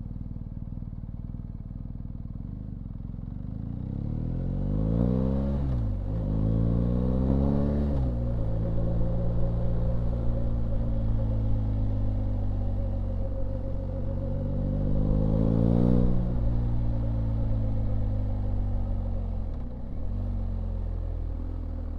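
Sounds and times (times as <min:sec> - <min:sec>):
motorcycle engine revving: 0:03.4 - 0:21.9.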